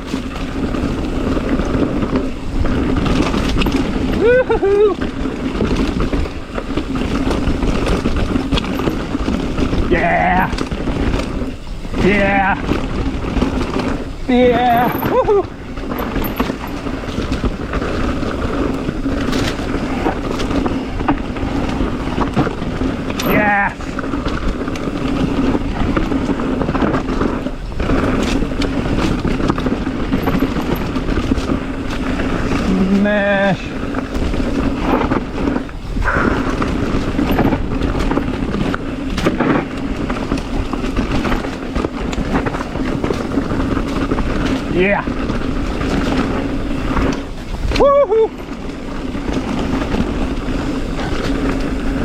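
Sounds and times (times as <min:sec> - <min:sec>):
bike knocks and rattles: 0:00.0 - 0:52.0
tyres rumbling over rock: 0:00.0 - 0:52.0
wind rushing over microphone: 0:00.0 - 0:52.0.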